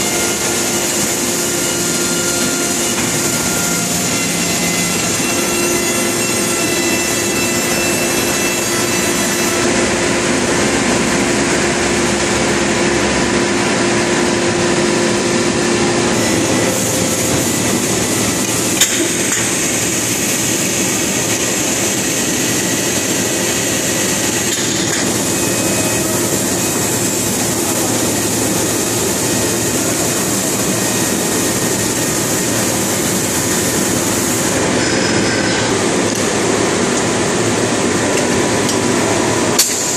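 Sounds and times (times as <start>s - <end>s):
industrial press machinery: 0.0s - 39.9s.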